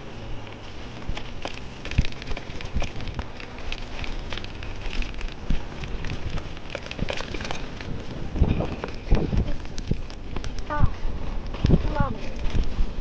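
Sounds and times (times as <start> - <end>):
bike tyres crunching on gravel: 0.0 - 13.0
bike thumping over bumps: 0.6 - 13.0.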